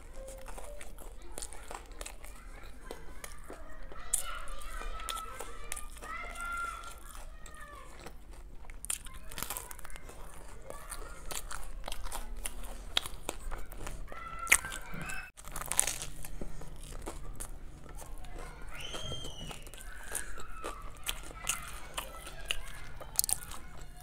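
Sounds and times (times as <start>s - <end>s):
crunchy biting and chewing: 0.0s - 24.0s.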